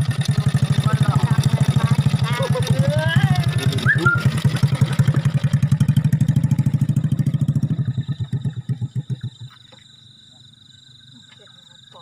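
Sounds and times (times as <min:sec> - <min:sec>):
small engine putter: 0:00.0 - 0:09.9
insects trilling: 0:00.0 - 0:12.0.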